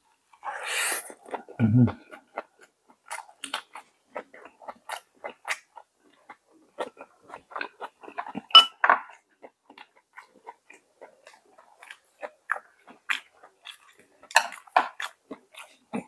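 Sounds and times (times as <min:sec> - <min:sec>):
person chewing with mouth clicks: 0:00.4 - 0:08.5, 0:09.1 - 0:16.0.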